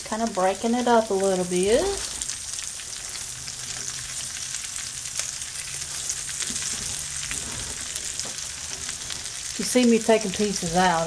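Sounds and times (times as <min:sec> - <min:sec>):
sausage sizzling in a skillet: 0:00.0 - 0:11.0.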